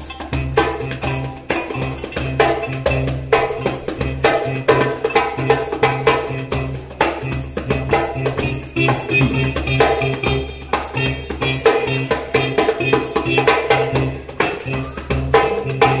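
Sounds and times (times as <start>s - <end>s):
plucked sitar notes: 0.0s - 16.0s.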